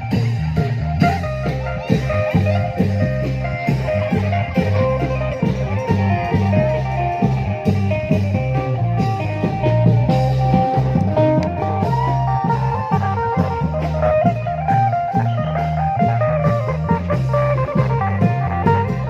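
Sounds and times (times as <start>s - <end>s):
plucked guitar melody: 0.0s - 19.0s
steady drum strokes: 0.0s - 19.0s
stepping bass line: 0.0s - 19.0s.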